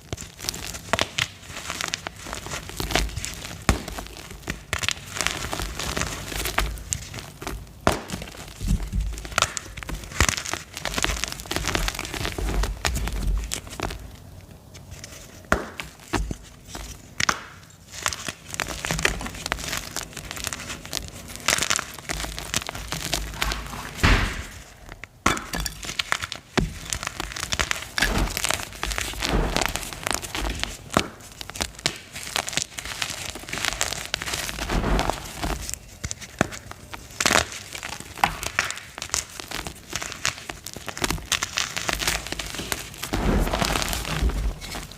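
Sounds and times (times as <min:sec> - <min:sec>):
chalk blocks cracking and crumbling: 0:00.0 - 0:44.9.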